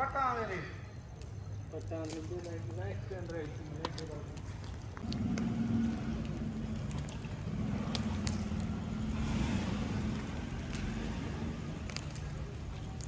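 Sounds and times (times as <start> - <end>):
wood embers crackling: 0.0 - 13.0
low motor-like hum: 0.9 - 13.0.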